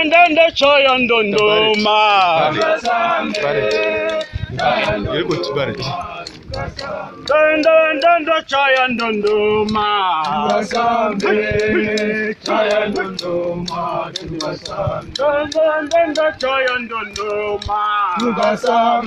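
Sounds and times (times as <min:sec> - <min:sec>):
men singing a chant: 0:00.0 - 0:19.0
sharp rhythmic clicks: 0:00.0 - 0:19.0.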